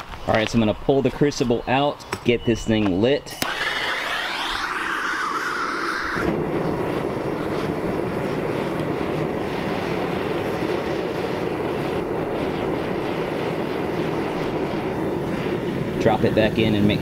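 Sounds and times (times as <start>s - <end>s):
propane burner flame rushing: 3.3s - 17.0s.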